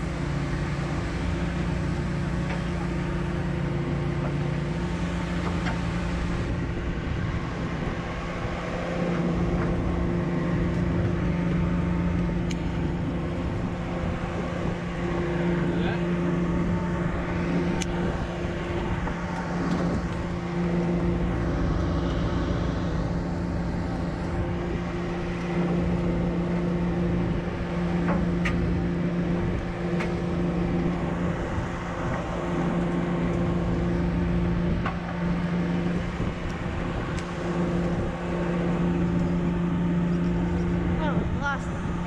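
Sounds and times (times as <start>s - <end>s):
boat engine humming: 0.0s - 42.0s
wind buffeting microphone: 0.0s - 42.0s.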